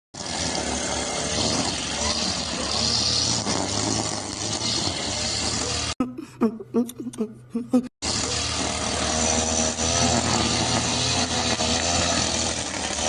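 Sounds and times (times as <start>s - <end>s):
motorcycle engine running: 0.2s - 6.0s, 8.0s - 13.0s.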